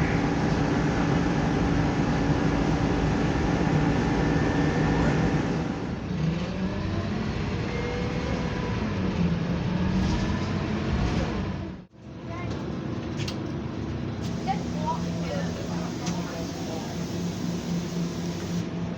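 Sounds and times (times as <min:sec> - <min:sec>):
bus engine running: 0:00.0 - 0:18.9.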